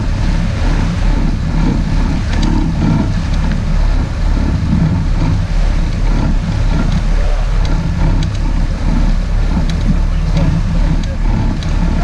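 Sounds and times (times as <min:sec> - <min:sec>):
boat engine rumbling: 0:00.0 - 0:12.0
water washing along hull: 0:00.0 - 0:12.0.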